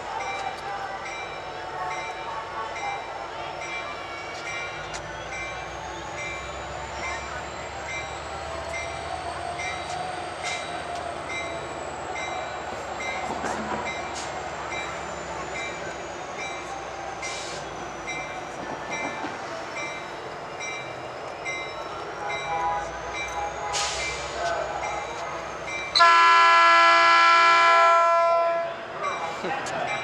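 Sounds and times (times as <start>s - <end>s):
train rolling on rails: 0.0s - 30.0s.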